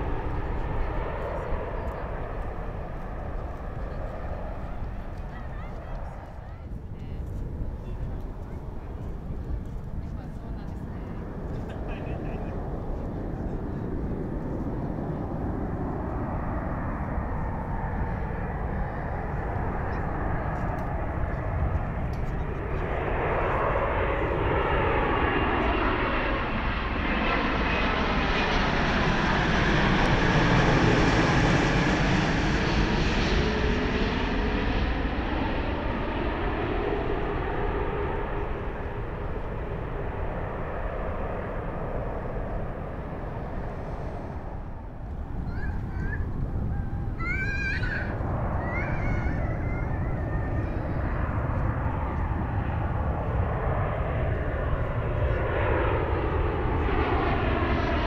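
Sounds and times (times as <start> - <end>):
jet plane passing overhead: 0.0 - 58.0.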